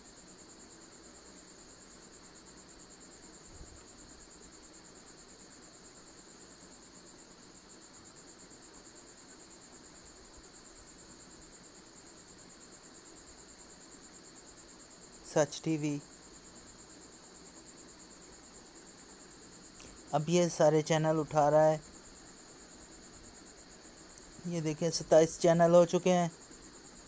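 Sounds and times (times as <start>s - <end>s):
low background hiss: 0.0s - 27.0s.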